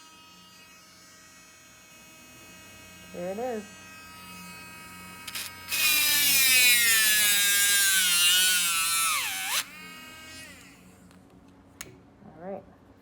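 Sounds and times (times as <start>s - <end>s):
rotary tool grinding shell: 0.0s - 10.8s
rotary tool motor running: 0.0s - 11.1s.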